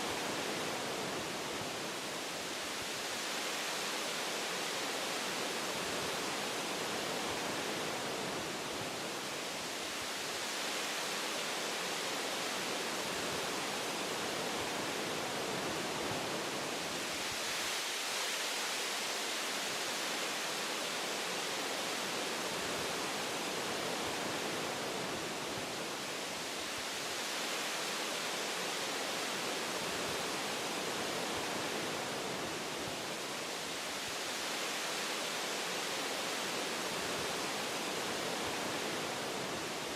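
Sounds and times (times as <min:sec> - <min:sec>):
wind rustling tree foliage: 0:00.0 - 0:39.9.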